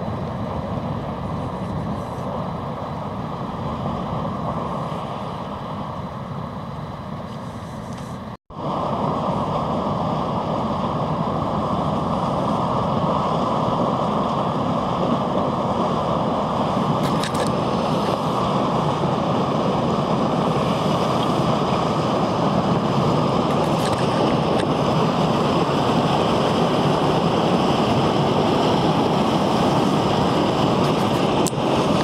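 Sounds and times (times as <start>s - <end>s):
ice churning along hull: 0.0s - 32.0s
ship engine rumbling: 0.0s - 32.0s.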